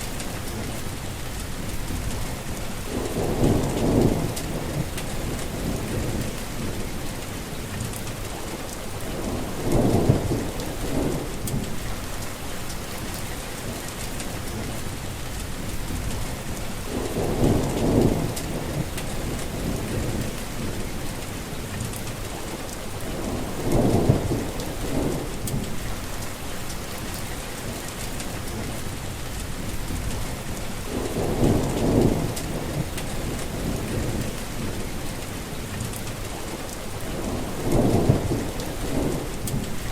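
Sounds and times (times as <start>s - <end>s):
heavy rain falling: 0.0s - 39.9s
low thunder rumble: 0.0s - 39.9s.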